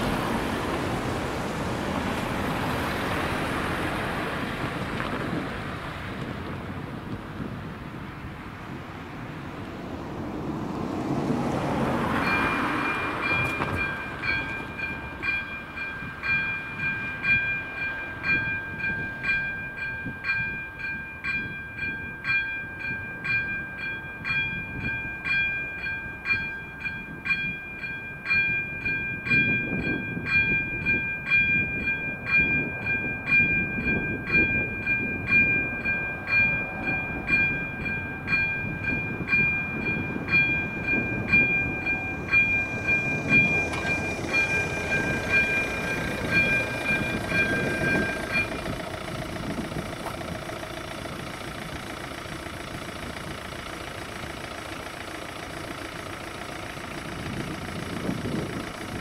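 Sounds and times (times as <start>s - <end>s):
level crossing warning bell: 11.3s - 59.0s.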